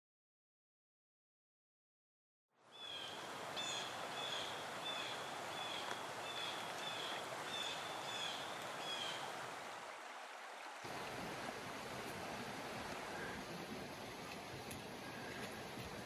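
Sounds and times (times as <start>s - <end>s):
river rushing: 2.7s - 16.0s.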